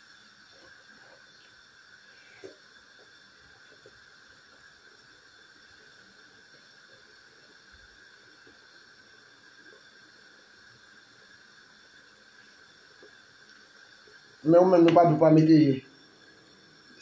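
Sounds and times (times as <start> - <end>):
faint steady hiss: 0.0 - 17.0
soup bubbling in a pot: 0.0 - 17.0.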